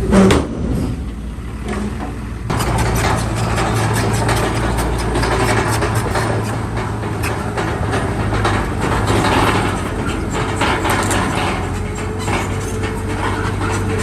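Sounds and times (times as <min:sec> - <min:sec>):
diesel machine engine running: 0:00.0 - 0:14.0
rattling clatter: 0:00.0 - 0:14.0.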